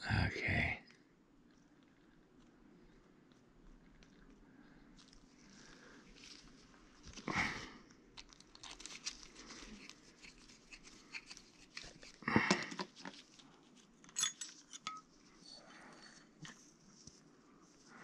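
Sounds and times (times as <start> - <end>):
soft rustling of gloved hands: 2.1 - 18.0.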